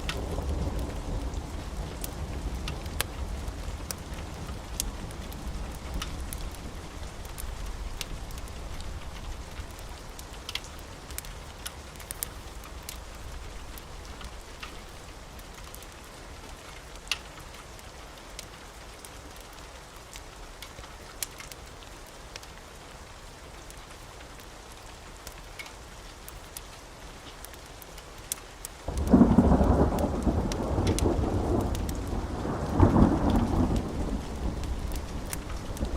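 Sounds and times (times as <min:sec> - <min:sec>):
wood fire crackling and popping: 0:00.0 - 0:22.8, 0:23.6 - 0:35.9
steady rain: 0:00.0 - 0:35.9.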